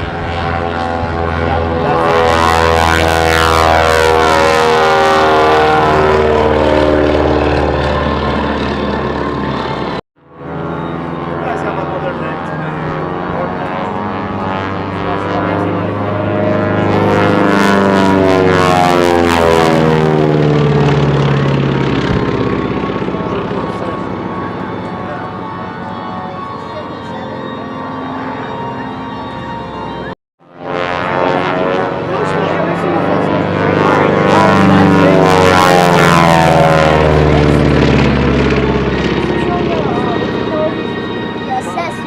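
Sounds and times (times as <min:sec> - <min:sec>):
propeller aircraft flyby: 0:00.0 - 0:42.0.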